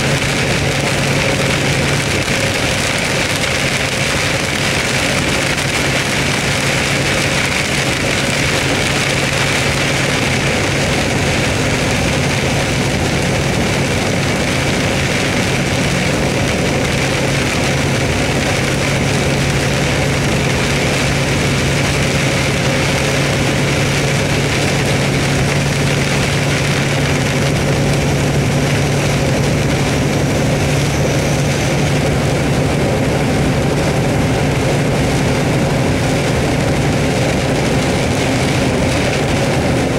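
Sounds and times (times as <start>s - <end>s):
engine humming: 0.0s - 39.9s
rain beating on vehicle roof: 0.0s - 39.9s.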